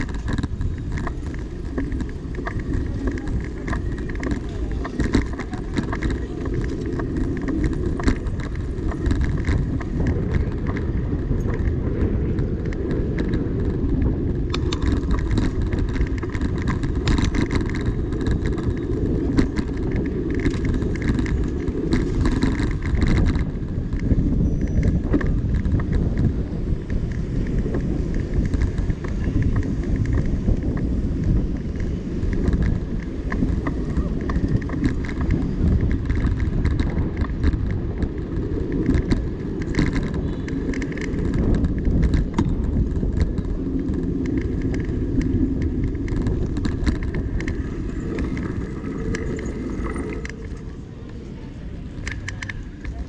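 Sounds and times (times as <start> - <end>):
bike rattles and clicks: 0.0 - 53.0
low rumble of traffic: 0.0 - 53.0.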